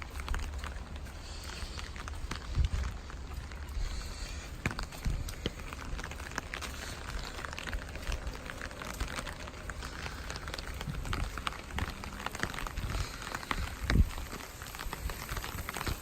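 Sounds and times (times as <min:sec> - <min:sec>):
low rumble: 0:00.0 - 0:15.0
rain drops ticking on surface: 0:00.0 - 0:16.0.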